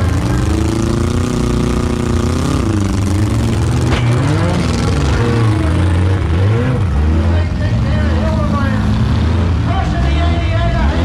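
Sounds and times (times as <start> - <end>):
car engines revving loudly: 0.0 - 11.0.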